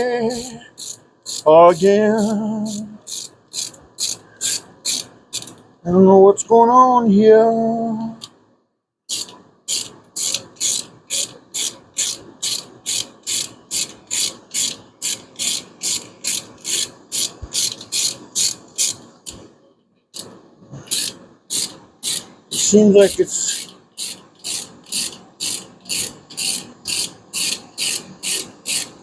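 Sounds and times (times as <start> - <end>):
ratchet wrench clicking: 0.0 - 5.6, 9.1 - 19.4, 20.2 - 29.0.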